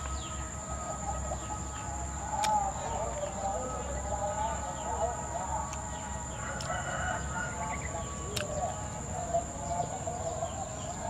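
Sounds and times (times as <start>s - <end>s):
high-pitched whine: 0.0s - 11.0s
rooster crowing: 0.2s - 9.9s.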